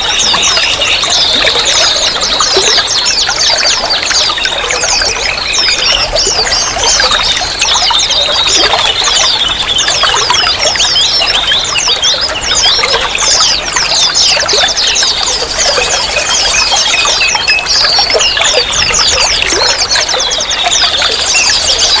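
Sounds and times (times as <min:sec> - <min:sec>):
trickling water: 0:00.0 - 0:22.0.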